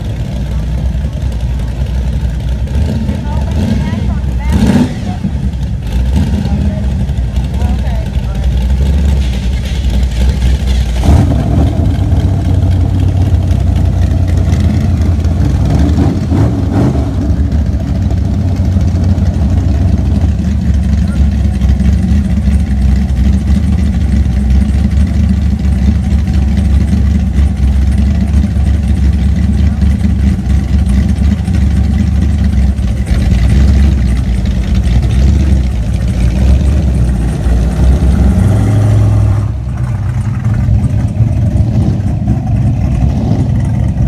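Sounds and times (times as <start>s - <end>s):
deep rumble of car engines idling: 0.0s - 44.0s.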